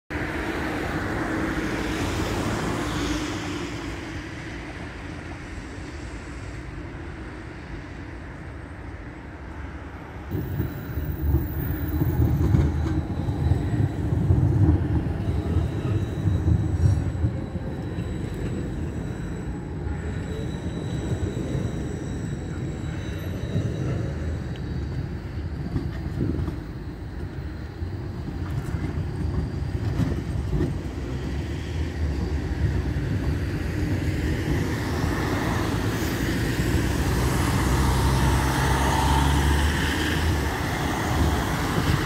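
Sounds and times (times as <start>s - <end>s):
street background noise: 0.1s - 42.0s
tram rumbling on rails: 0.1s - 42.0s.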